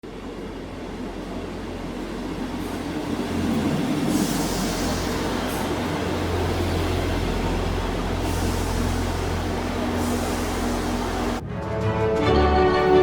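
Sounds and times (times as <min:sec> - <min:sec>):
train rumbling past: 0:00.0 - 0:11.5.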